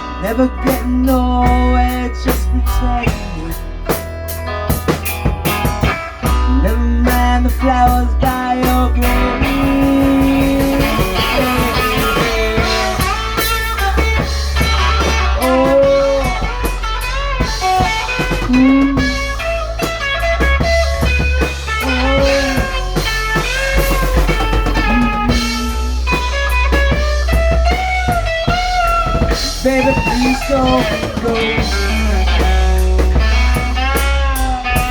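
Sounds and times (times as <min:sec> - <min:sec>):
bass guitar: 0:00.0 - 0:34.9
drums: 0:00.0 - 0:34.9
lead guitar bending notes: 0:00.0 - 0:34.9.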